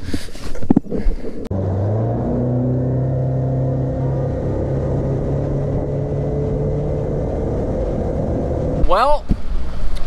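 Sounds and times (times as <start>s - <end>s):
engine running steadily: 1.5s - 10.0s.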